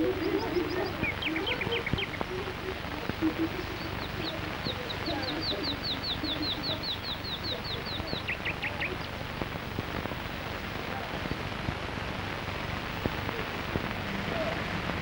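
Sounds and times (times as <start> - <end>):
songbird chirping: 0.0 - 15.0
steady hiss: 0.0 - 15.0.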